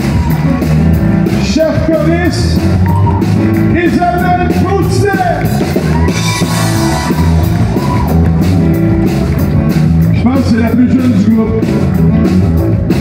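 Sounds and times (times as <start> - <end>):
drum beat: 0.0 - 13.0
live band playing upbeat song: 0.0 - 13.0.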